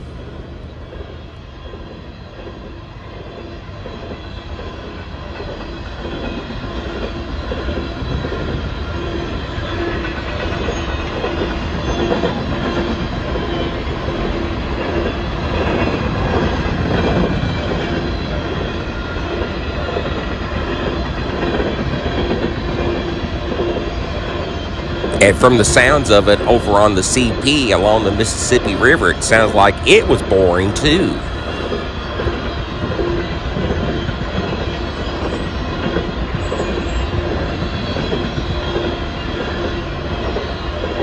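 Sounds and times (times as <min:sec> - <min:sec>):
train cars rumbling past: 0:00.0 - 0:41.0.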